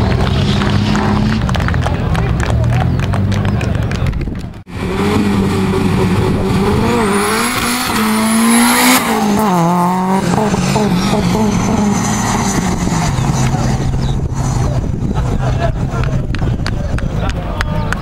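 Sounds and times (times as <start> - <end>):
car engine revving and accelerating: 0.0 - 4.0, 4.7 - 16.7.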